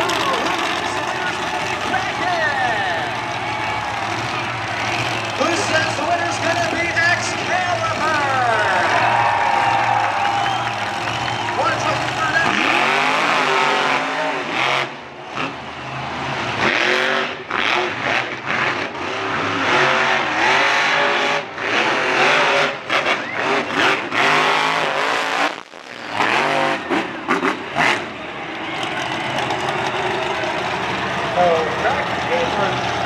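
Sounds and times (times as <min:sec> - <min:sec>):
truck engines revving hard: 0:00.0 - 0:33.0.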